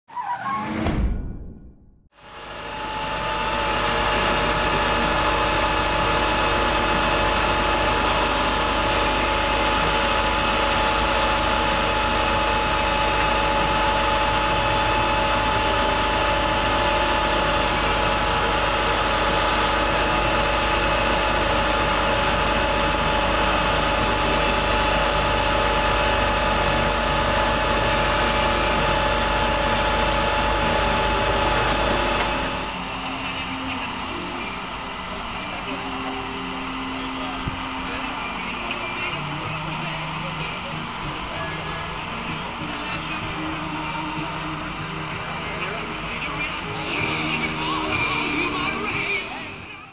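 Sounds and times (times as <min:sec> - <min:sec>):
steady whine: 0:00.2 - 0:49.9
vehicle engine idling: 0:02.2 - 0:49.9.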